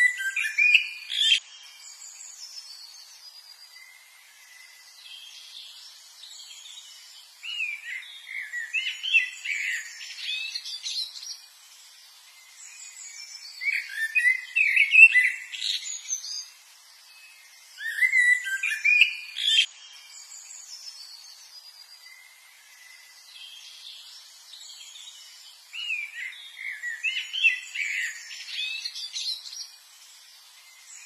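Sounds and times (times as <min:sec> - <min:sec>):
songbird singing whistled notes: 0:00.0 - 0:31.0.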